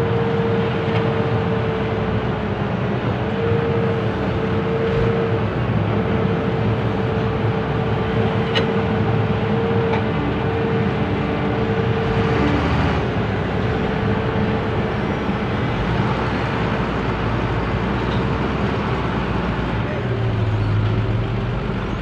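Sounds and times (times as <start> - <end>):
heavy diesel engines running: 0.0 - 22.0.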